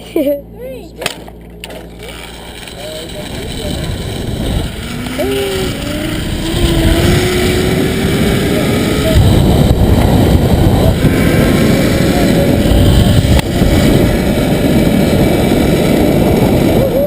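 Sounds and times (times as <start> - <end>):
zipline trolley whining on cable: 1.0 - 17.0
wind rushing over microphone: 2.6 - 17.0.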